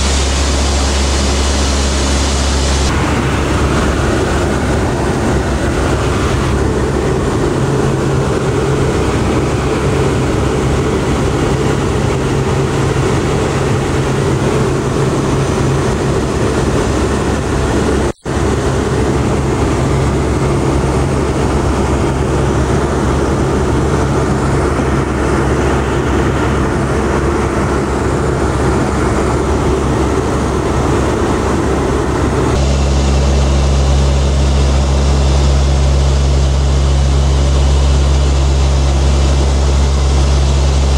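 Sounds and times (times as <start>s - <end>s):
turboprop engines droning in flight: 0.0s - 40.9s.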